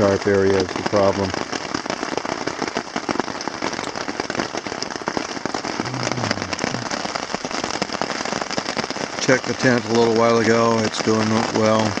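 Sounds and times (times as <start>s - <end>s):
heavy rain on a tarp: 0.0s - 12.0s.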